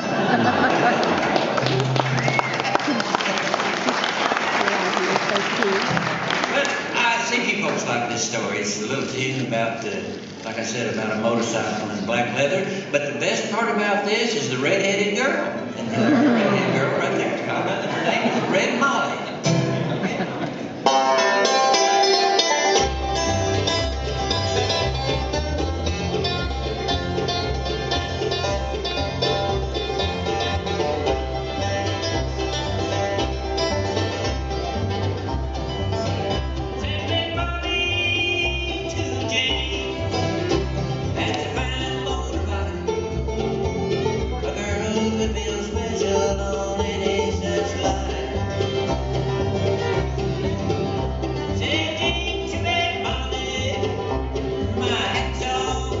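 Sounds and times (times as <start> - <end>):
bluegrass band playing: 0.0 - 56.0
upright bass: 5.6 - 56.0.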